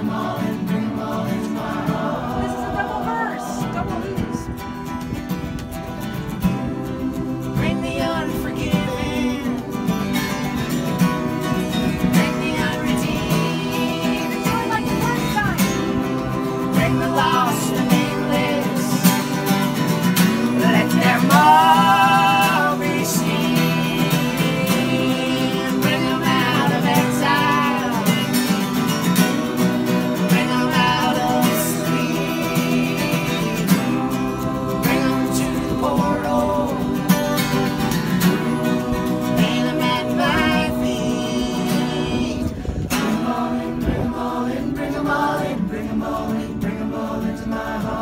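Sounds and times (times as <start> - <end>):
acoustic guitars strummed: 0.0 - 48.0
group singing in harmony: 0.0 - 48.0
person singing with vibrato: 6.4 - 48.0.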